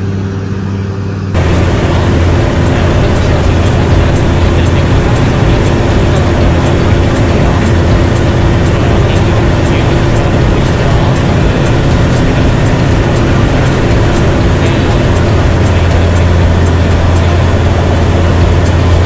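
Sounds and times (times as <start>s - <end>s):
propeller aircraft engine droning: 0.0s - 19.0s.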